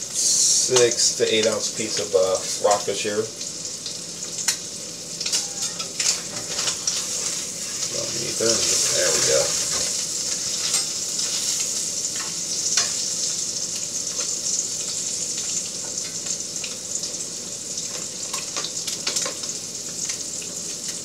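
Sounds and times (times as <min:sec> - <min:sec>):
fish sizzling in a pan: 0:00.0 - 0:21.0.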